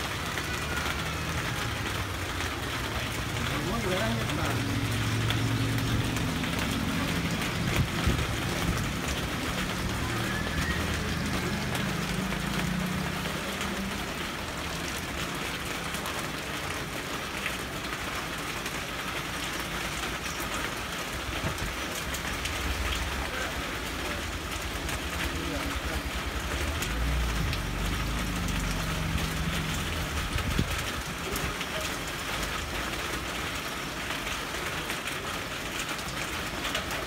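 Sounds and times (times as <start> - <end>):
rain falling: 0.0 - 37.0.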